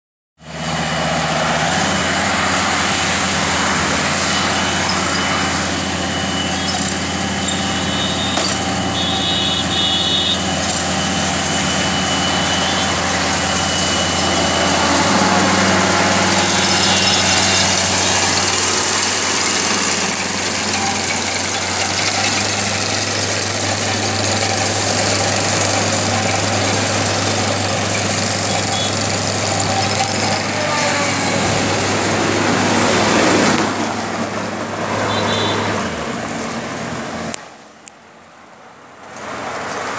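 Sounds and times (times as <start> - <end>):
combine harvester diesel engine: 0.4 - 39.9.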